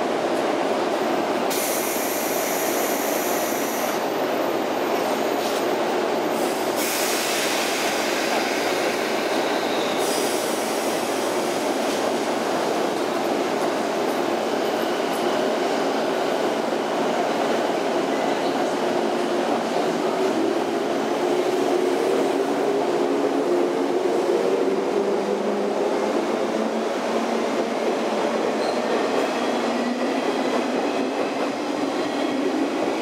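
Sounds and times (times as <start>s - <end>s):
electric train departing: 0.0s - 33.0s.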